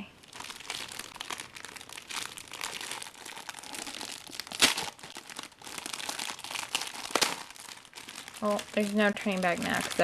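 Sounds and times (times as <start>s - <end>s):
bag ripping: 0.0s - 10.0s
packaging bag crinkling: 0.0s - 10.0s.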